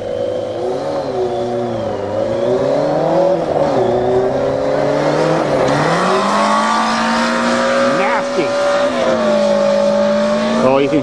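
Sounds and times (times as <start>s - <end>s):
motorcycle engine revving under load: 0.0s - 11.0s.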